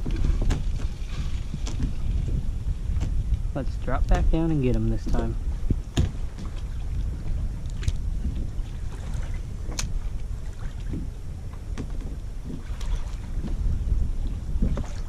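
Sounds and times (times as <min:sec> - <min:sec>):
water lapping: 0:00.0 - 0:15.0
wind rumbling on microphone: 0:00.0 - 0:15.0.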